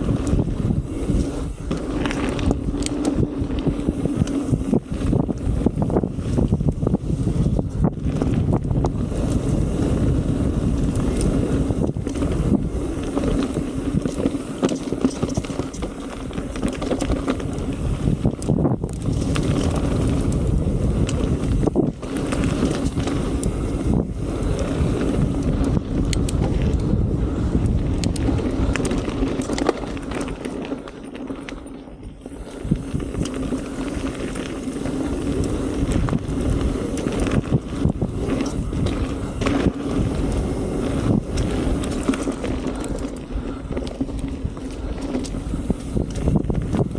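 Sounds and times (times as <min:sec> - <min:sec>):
bike rattling and knocking: 0:00.0 - 0:46.9
wind rushing over microphone: 0:00.0 - 0:46.9.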